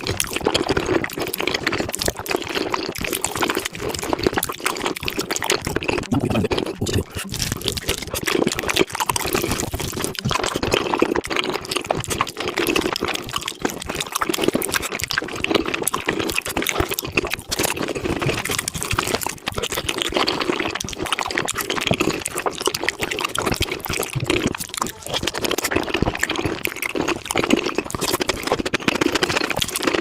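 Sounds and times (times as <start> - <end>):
wet chewing and mouth smacking: 0.0 - 30.0.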